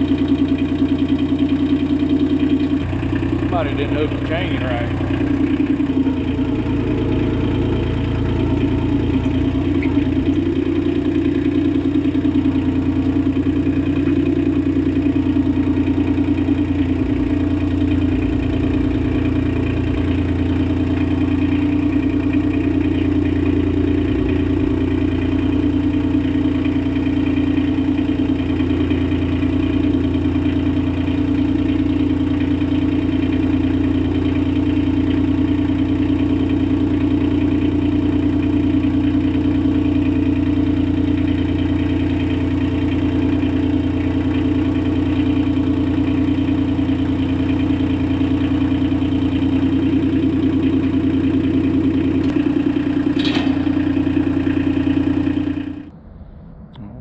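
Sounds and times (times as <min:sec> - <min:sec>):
small gasoline engine idling: 0:00.0 - 0:55.9.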